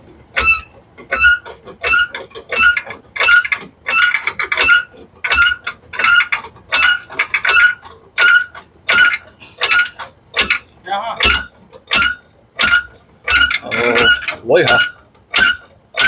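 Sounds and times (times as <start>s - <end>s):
jack squeaking: 0.0s - 16.0s.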